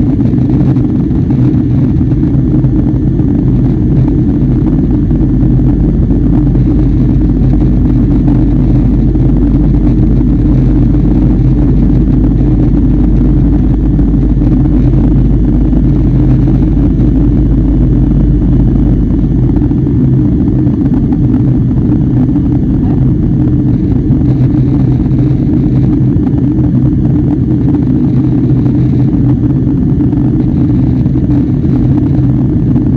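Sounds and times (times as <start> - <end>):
airliner engine drone: 0.0 - 32.9
rush of airflow: 0.0 - 32.9.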